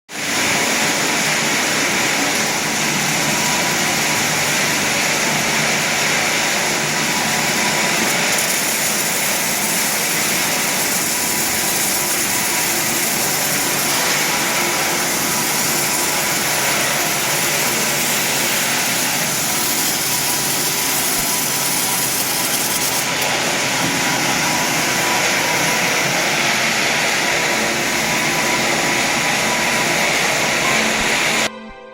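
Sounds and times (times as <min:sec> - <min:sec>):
machine noise: 0:00.1 - 0:31.6
welding hiss: 0:00.2 - 0:31.4.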